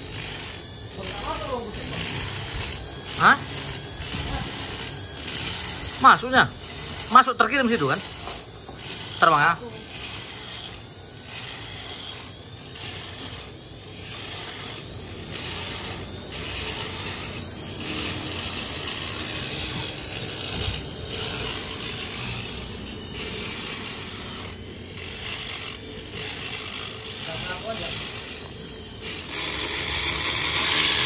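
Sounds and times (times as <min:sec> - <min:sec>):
hand tool scraping metal: 0:00.0 - 0:31.0.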